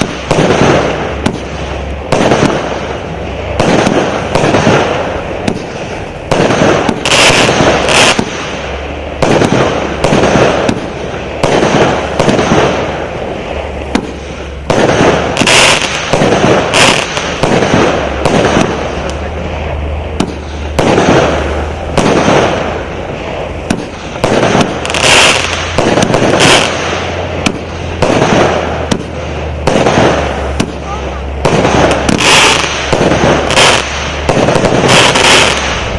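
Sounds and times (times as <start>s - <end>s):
crackling firework bursts: 0.0s - 35.9s
fireworks launching and bursting: 0.0s - 35.9s.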